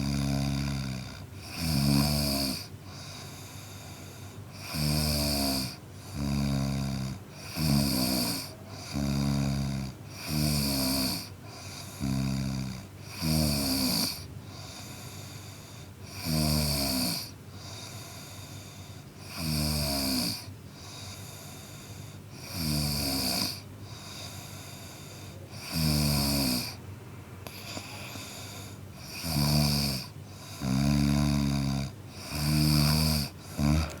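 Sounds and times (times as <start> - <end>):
man snoring: 0.0 - 26.8, 27.5 - 34.0.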